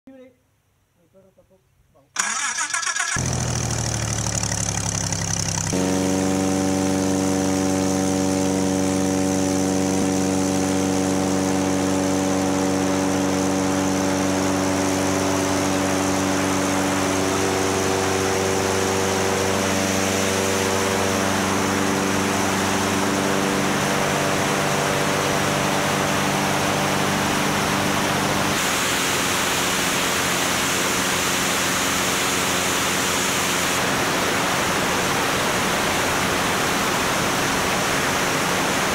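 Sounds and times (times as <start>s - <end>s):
propeller engine idling: 2.2s - 38.9s
wind and engine noise in flight: 3.1s - 38.9s.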